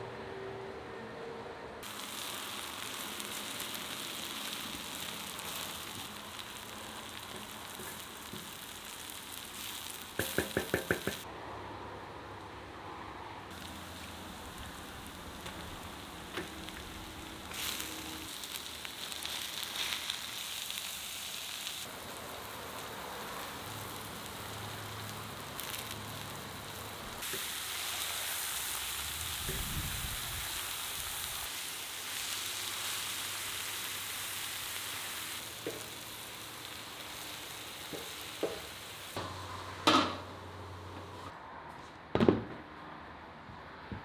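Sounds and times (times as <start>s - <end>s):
meat and onions sizzling: 1.8s - 11.3s, 13.5s - 41.0s.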